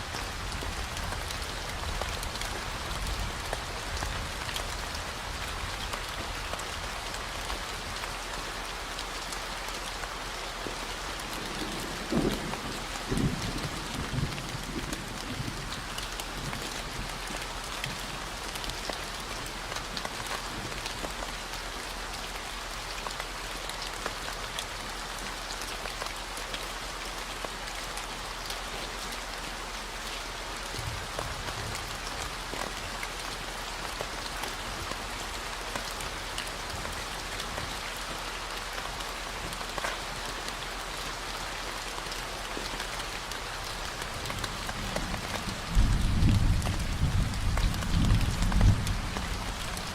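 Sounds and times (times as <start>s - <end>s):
rain drops pattering: 0.0s - 49.9s.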